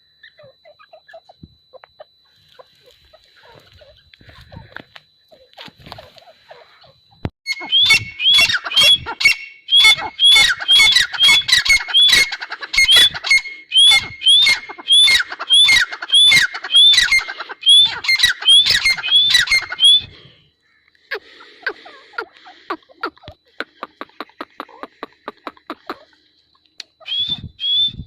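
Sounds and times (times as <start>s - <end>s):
bird calling sharp notes: 5.3s - 28.0s.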